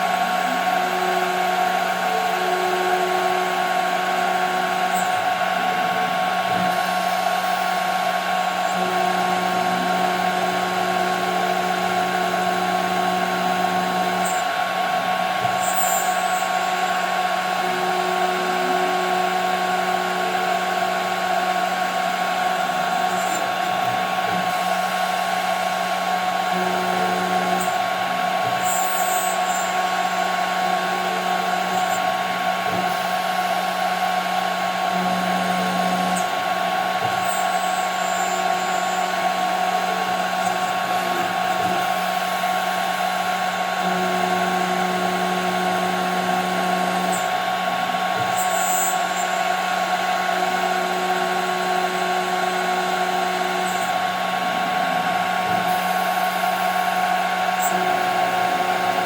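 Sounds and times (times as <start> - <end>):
lower machine tone: 0.0 - 59.0
router spindle high whine: 0.0 - 59.0.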